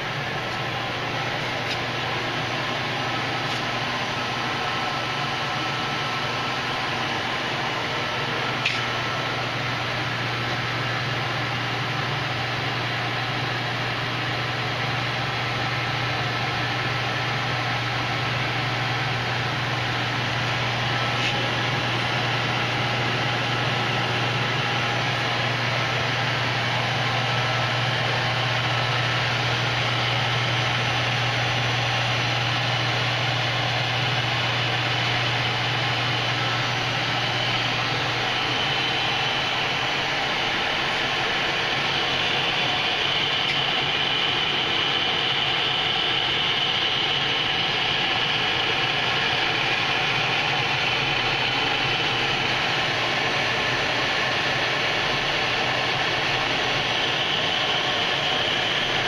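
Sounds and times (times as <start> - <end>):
machinery low drone: 0.0 - 59.0.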